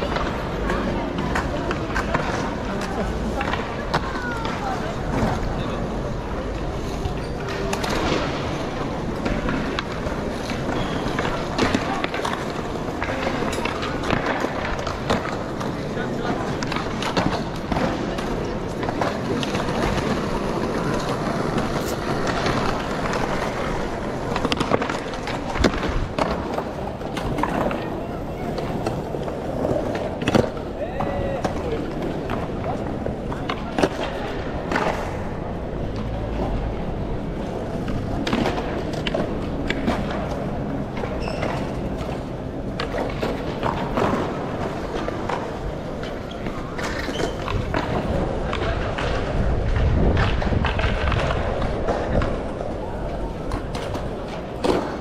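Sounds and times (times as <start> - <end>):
skateboard wheels rumbling: 0.0 - 55.0
skateboards clacking on ground: 0.0 - 55.0
street noise: 0.0 - 55.0.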